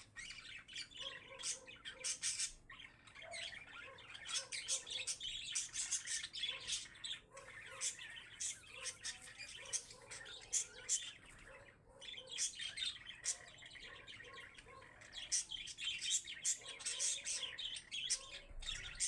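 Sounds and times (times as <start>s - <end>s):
parakeets chattering: 0.0s - 19.0s.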